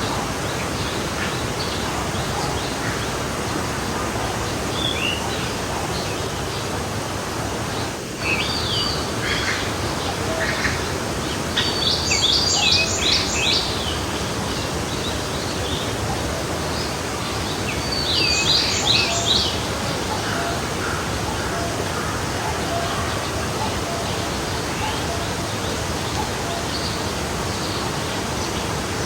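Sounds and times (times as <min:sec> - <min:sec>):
forest stream flowing: 0:00.0 - 0:29.0
songbird singing: 0:00.0 - 0:29.0.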